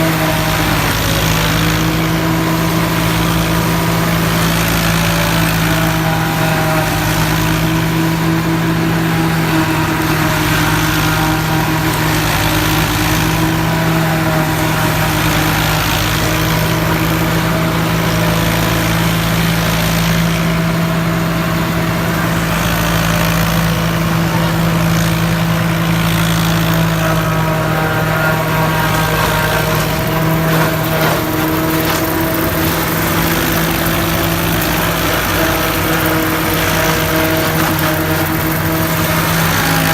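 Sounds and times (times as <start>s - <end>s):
silage chopper drone: 0.0s - 39.9s
tractor engine running: 0.0s - 39.9s.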